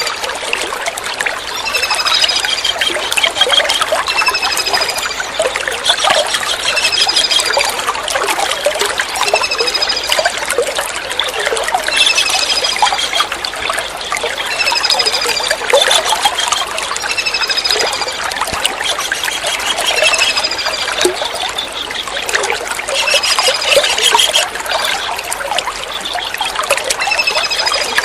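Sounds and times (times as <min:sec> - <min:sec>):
water trickling and splashing: 0:00.0 - 0:28.0.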